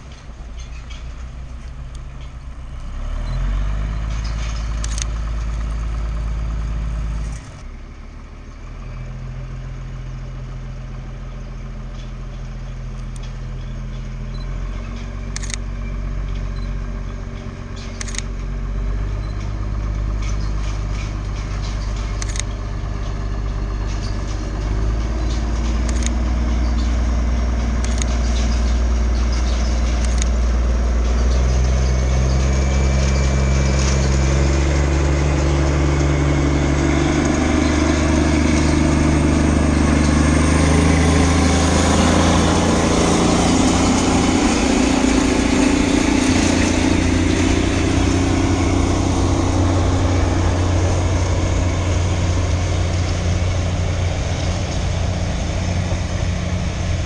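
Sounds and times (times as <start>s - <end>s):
wheels clicking on track: 0.0s - 7.7s, 9.0s - 57.0s
diesel locomotive engine droning: 0.0s - 57.0s.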